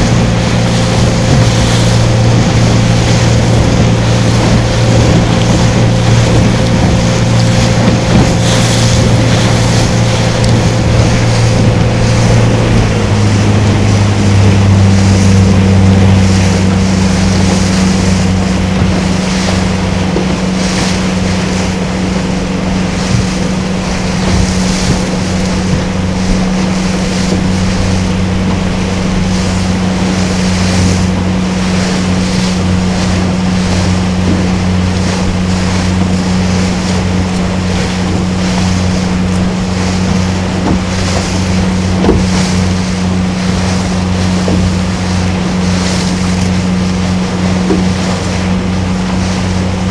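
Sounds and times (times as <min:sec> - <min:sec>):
motorboat engine humming: 0:00.0 - 0:49.9
water rushing along hull: 0:00.0 - 0:49.9
wind buffeting microphone: 0:00.0 - 0:49.9.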